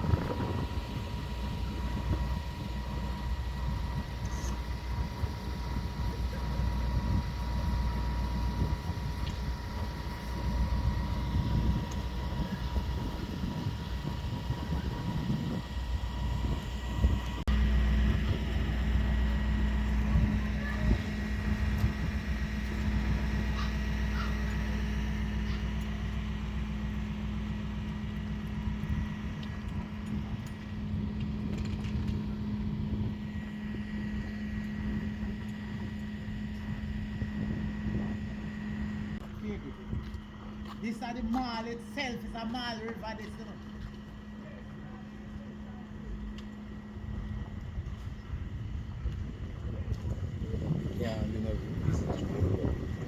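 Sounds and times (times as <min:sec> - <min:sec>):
constant hum: 0:00.0 - 0:53.0
vehicle engine rumbling: 0:00.0 - 0:53.0.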